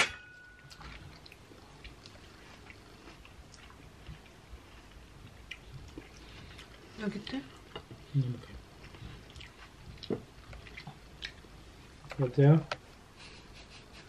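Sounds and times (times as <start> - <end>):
small clicks of people eating: 0.6 - 13.4.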